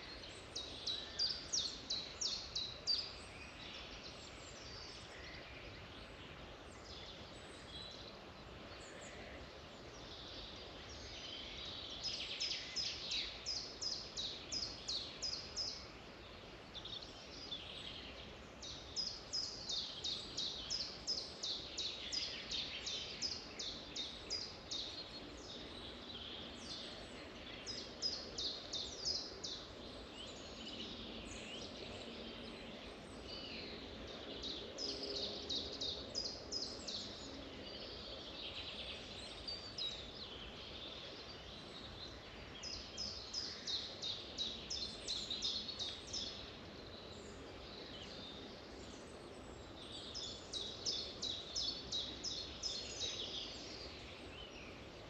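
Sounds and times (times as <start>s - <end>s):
background hiss: 0.0s - 55.0s
songbirds singing and calling: 0.0s - 55.0s.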